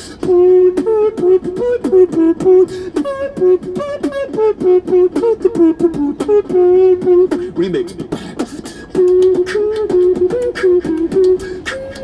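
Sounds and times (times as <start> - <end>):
beatboxer voicing a melody: 0.0 - 12.0
mouth-made drum clicks: 0.2 - 12.0.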